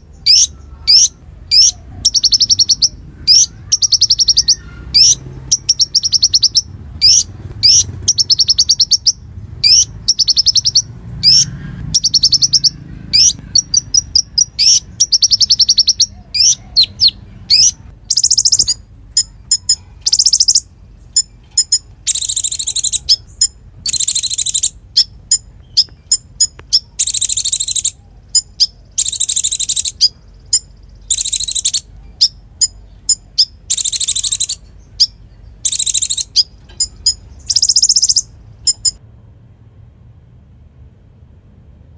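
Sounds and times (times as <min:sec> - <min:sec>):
songbird singing fast trills: 0:00.0 - 0:39.0.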